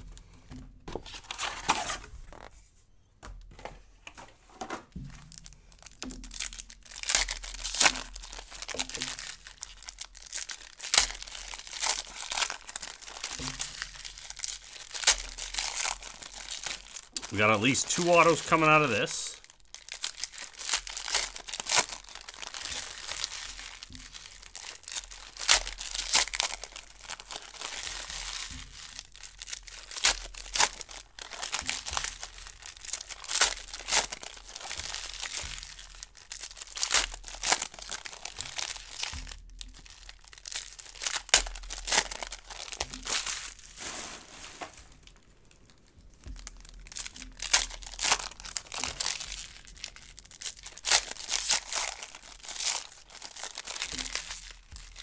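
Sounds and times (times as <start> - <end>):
foil wrappers crinkling and tearing: 0.0 - 2.5, 5.0 - 55.0.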